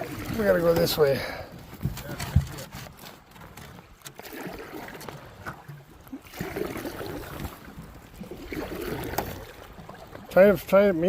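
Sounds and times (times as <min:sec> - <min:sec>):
paddles stroking water: 0:00.0 - 0:11.0
water gurgling along hull: 0:00.0 - 0:11.0.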